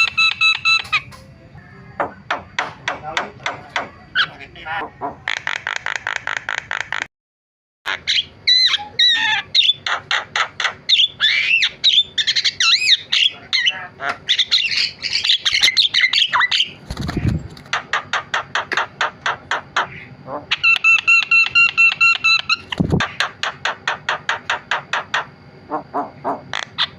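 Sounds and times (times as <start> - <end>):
myna bird chattering song: 0.0 - 1.2, 2.0 - 7.1, 7.9 - 26.9.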